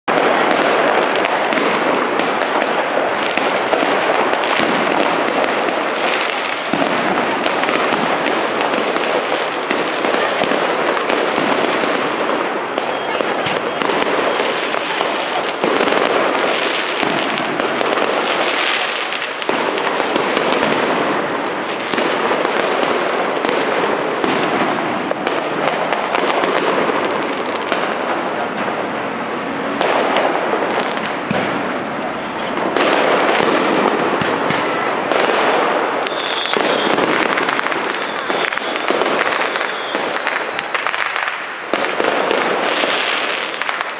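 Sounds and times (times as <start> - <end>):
fireworks crackling and popping: 0.0 - 43.9.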